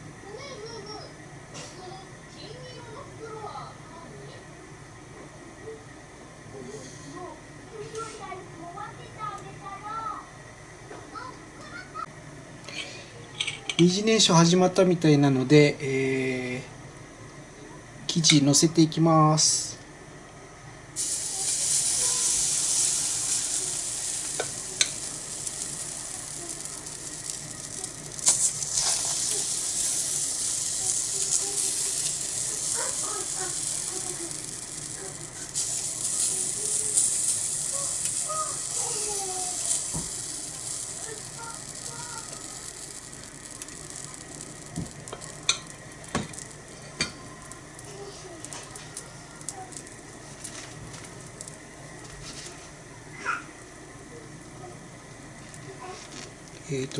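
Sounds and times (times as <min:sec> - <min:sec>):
batter sizzling on a griddle: 0:00.0 - 0:04.2, 0:06.5 - 0:12.1, 0:20.9 - 0:56.9.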